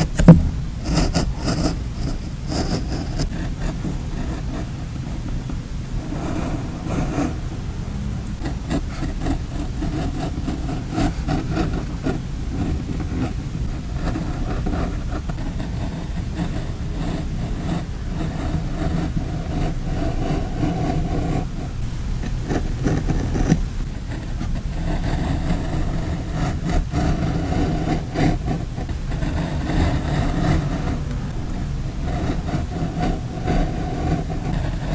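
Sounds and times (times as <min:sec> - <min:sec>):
steady low rumble: 0:00.0 - 0:14.7, 0:18.0 - 0:34.9.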